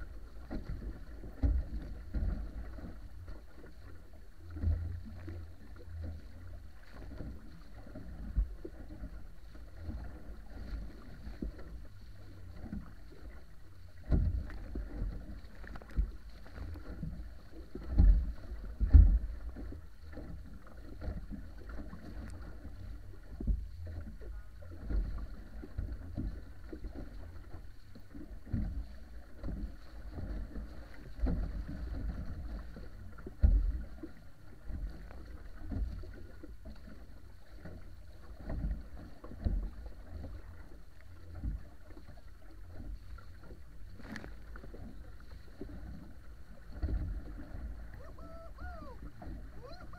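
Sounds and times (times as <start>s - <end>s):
water rushing against hull: 0.0s - 49.9s
waves thumping hull: 0.0s - 49.9s.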